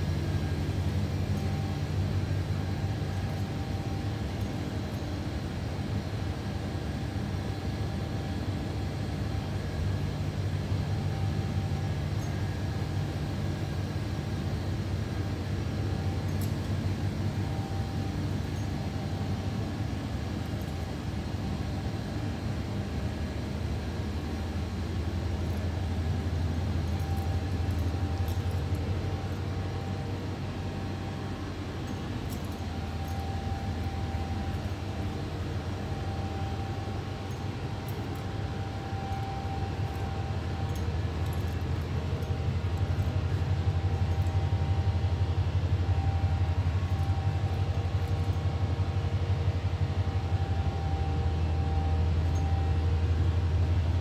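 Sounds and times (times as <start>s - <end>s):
faint steady tone: 0.0s - 54.0s
low kitchen machine drone: 0.0s - 54.0s.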